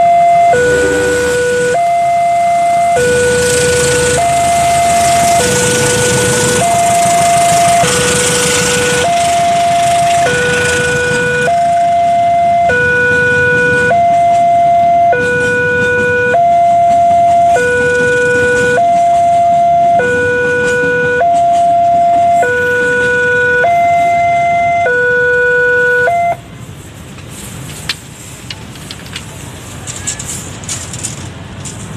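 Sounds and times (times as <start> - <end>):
level crossing alarm two tones: 0.0 - 26.4
train passing with low rumble: 0.0 - 31.9.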